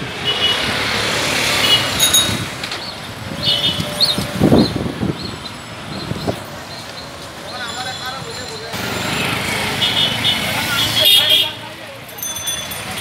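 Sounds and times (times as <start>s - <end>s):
city traffic rush: 0.0s - 13.0s.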